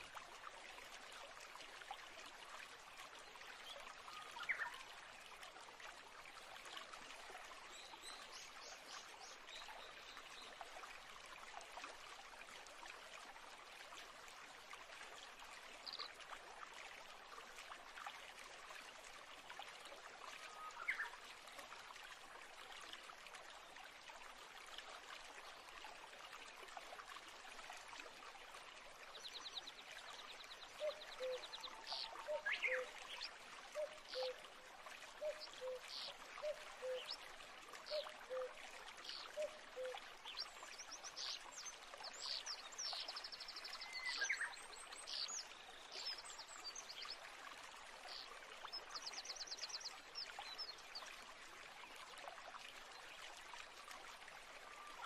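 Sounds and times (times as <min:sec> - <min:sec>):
running stream: 0:00.0 - 0:55.0.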